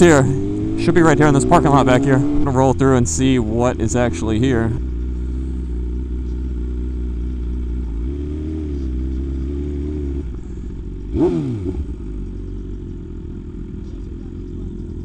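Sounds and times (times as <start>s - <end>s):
motorcycle engine revving: 0.0s - 15.0s
motorcycle engine running: 0.0s - 15.0s.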